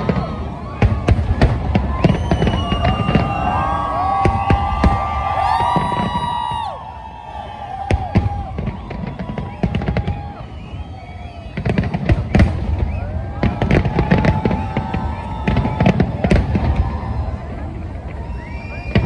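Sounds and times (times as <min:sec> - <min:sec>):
firework bangs and crackles: 0:00.0 - 0:19.0.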